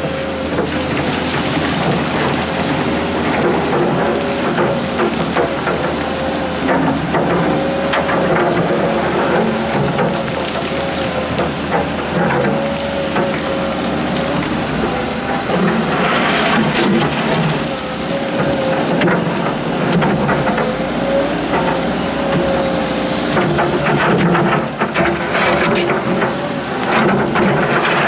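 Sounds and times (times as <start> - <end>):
bucket scraping gravel: 0.0 - 28.0
excavator diesel engine running: 0.0 - 28.0.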